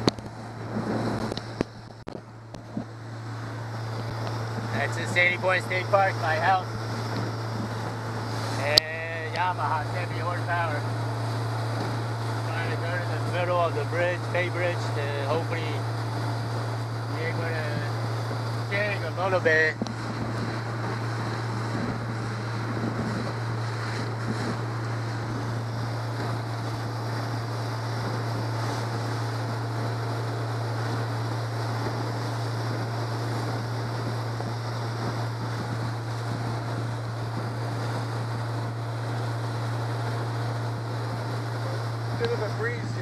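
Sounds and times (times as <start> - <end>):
outboard motor droning: 0.0 - 43.0
water rushing past hull: 0.0 - 43.0
wind on microphone: 0.0 - 43.0.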